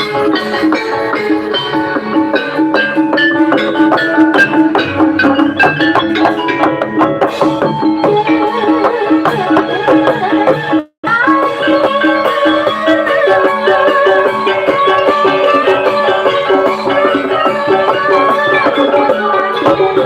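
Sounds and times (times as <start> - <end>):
drum strokes: 0.0 - 20.0
metallophones ringing melody: 0.0 - 20.0.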